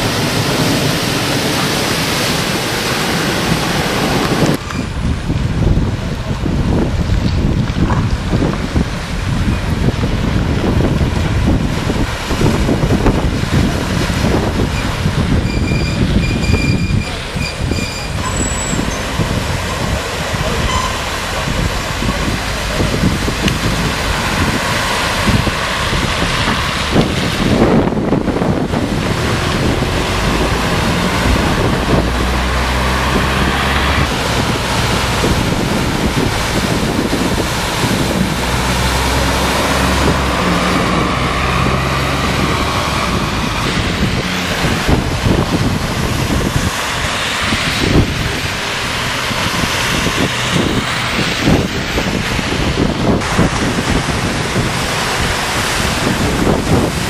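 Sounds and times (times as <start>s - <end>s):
bus engine low hum: 0.0s - 57.0s
vehicles splashing through floodwater: 0.0s - 57.0s.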